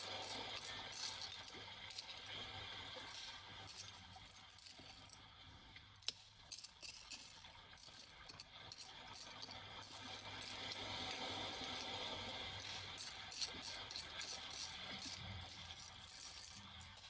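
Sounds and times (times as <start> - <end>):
small objects clicking and rattling: 0.0 - 2.3, 3.0 - 5.2, 6.0 - 17.0.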